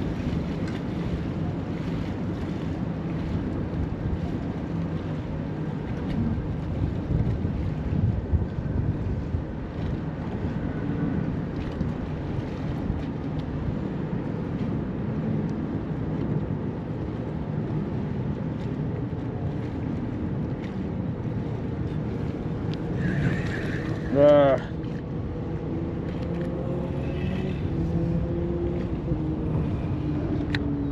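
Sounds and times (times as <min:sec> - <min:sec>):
wind blowing across microphone: 0:00.0 - 0:30.9.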